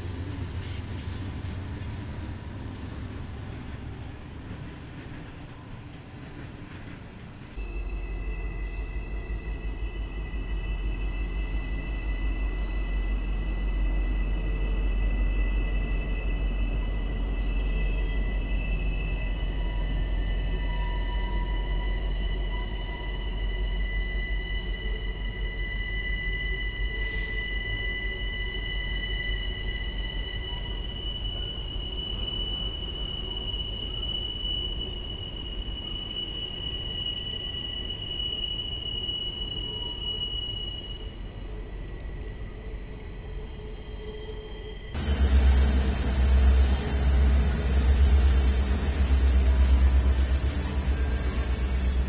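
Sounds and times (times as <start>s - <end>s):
diesel locomotive passing: 0.0s - 35.8s, 44.3s - 52.0s
rolling train rumble: 0.0s - 52.0s
train wheels squealing on rail: 0.0s - 52.0s.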